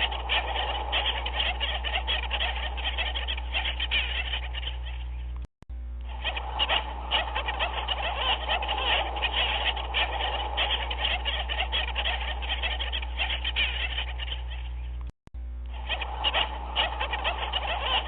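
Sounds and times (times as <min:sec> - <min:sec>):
chorus of animal calls: 0:00.0 - 0:05.4, 0:06.0 - 0:15.0, 0:15.7 - 0:18.0
steady low hum: 0:00.0 - 0:18.0.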